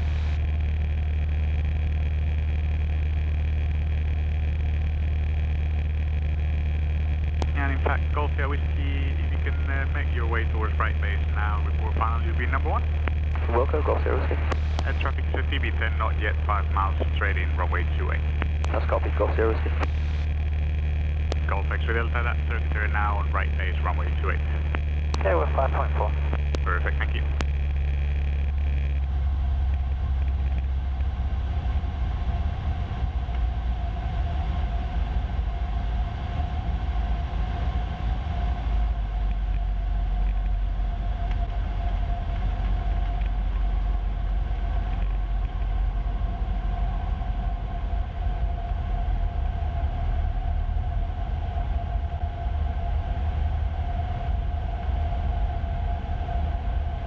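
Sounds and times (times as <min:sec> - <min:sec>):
airplane engine and propeller droning: 0:00.0 - 0:57.0.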